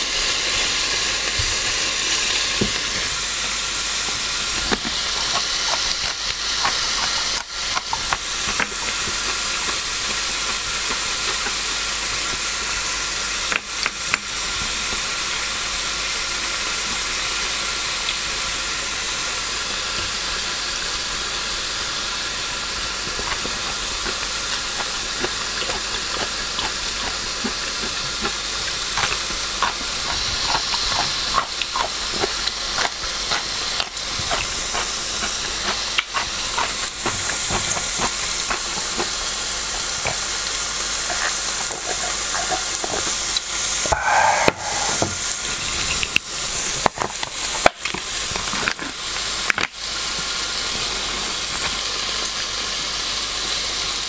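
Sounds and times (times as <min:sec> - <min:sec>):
meat sizzling in a grill pan: 0:00.0 - 0:54.0.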